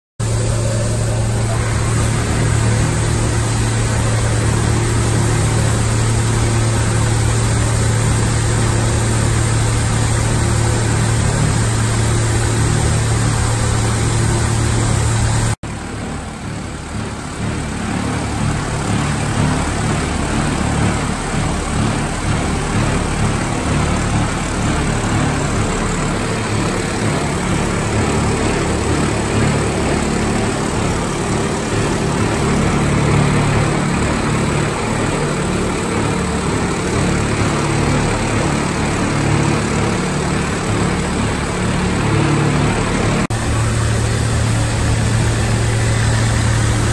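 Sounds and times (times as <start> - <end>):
overlock machine running: 0.2 - 46.9.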